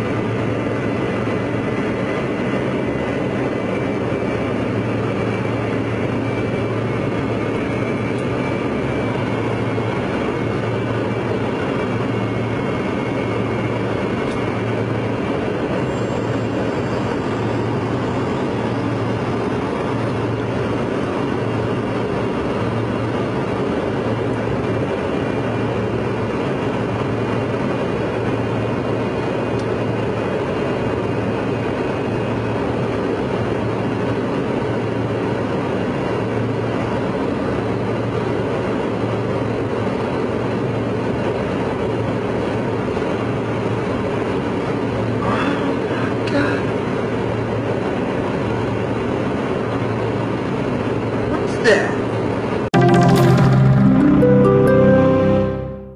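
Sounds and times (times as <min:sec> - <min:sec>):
airliner cabin engine drone: 0:00.0 - 0:55.9.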